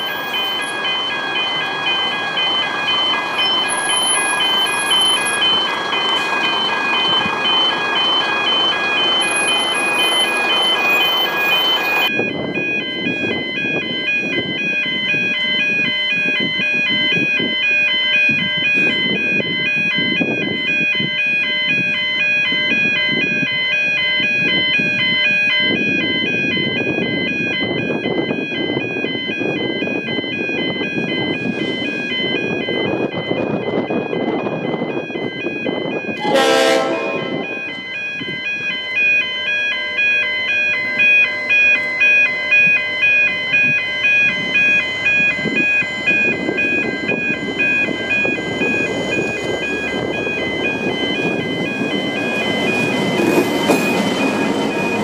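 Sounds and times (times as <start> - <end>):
level crossing bells ringing: 0.0 - 55.0
traffic: 0.0 - 55.0.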